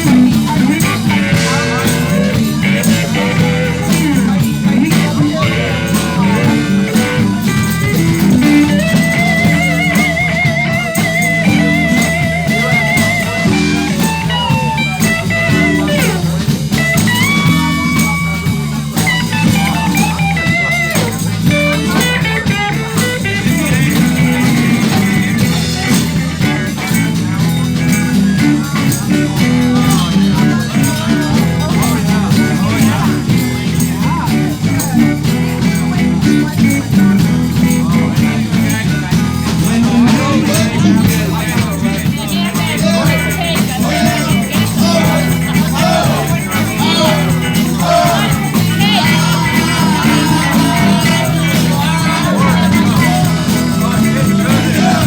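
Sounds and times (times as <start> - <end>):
bass and drums: 0.0 - 55.0
lead guitar with vibrato: 0.0 - 55.0.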